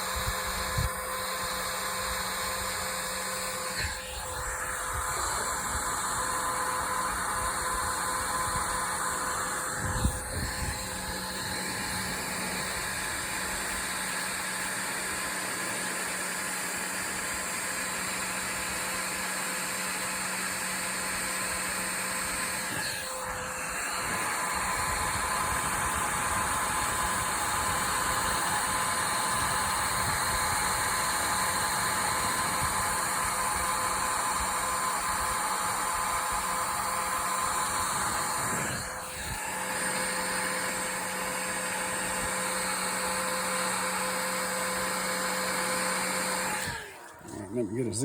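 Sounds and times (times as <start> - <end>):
heat gun blowing: 0.0 - 48.0.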